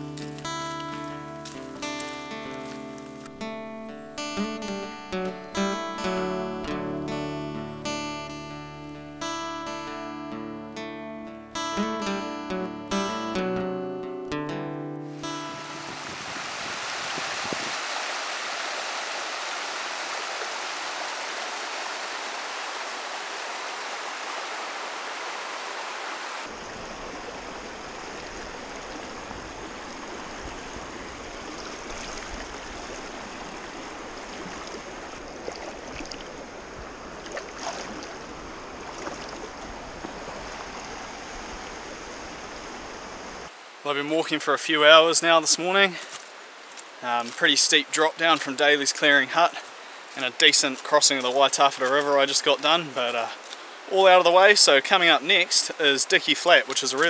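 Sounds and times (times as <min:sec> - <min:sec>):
flowing river water: 0:00.0 - 0:10.7, 0:15.0 - 0:57.0.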